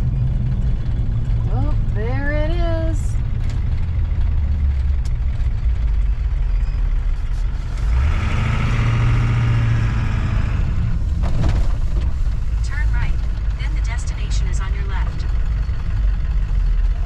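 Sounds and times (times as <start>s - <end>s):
truck road and engine rumble: 0.0s - 17.0s.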